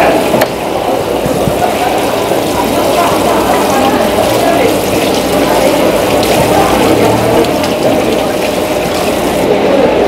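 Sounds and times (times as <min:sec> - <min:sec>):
hose spray hissing and splashing: 0:00.9 - 0:09.5.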